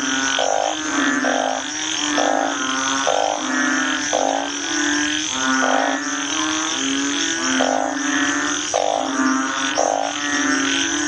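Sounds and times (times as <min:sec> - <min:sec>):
frogs calling: 0:00.0 - 0:11.0.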